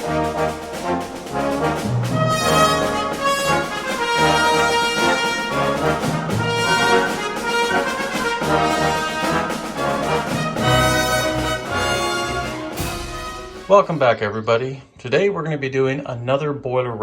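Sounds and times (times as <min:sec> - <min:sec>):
brass-led orchestral music: 0:00.0 - 0:14.3.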